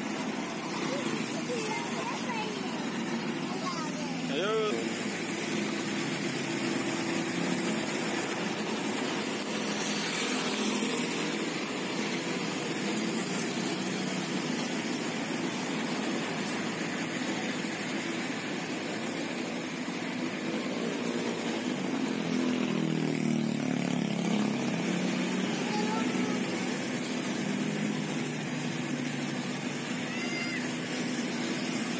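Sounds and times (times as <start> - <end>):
heavy machinery diesel engines: 0.0 - 31.9.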